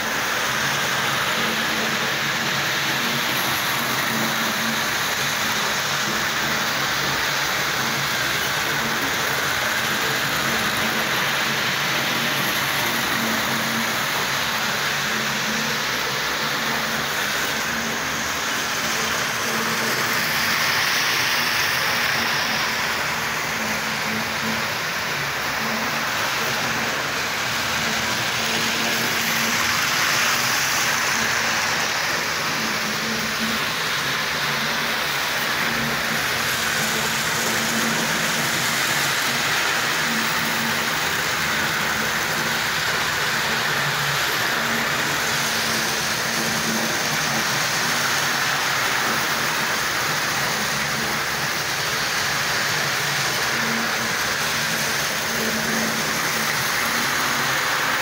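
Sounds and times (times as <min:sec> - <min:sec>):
model trains whirring on track: 0:00.0 - 0:58.0.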